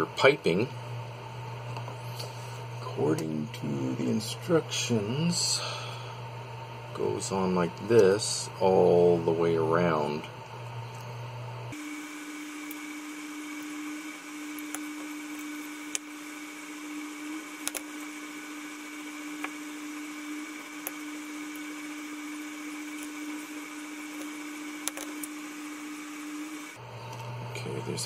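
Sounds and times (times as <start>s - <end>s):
mechanical hum with hiss: 0.0s - 28.0s.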